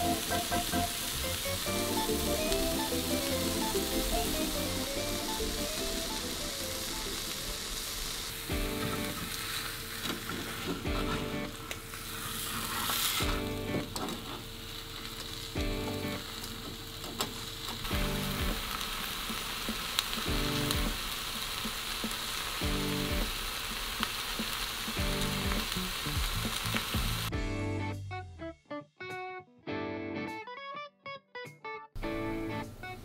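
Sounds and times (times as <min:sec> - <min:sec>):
egg sizzling in oil: 0:00.0 - 0:27.3.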